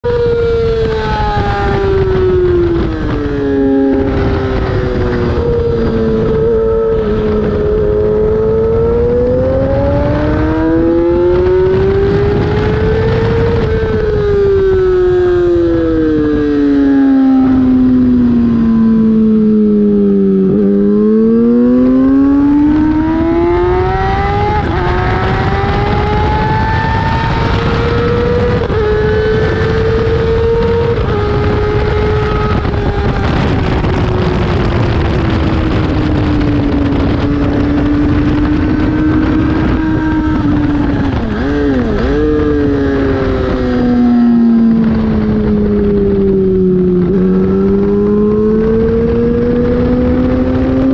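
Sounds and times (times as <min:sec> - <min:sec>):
wind rushing: 0:00.0 - 0:19.4, 0:20.0 - 0:50.9
motorcycle engine revving: 0:00.0 - 0:50.9.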